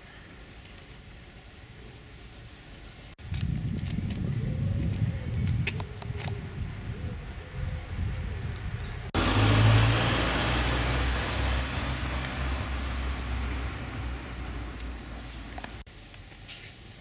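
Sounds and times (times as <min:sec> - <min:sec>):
vehicle engine and tyre noise: 0:03.2 - 0:16.9.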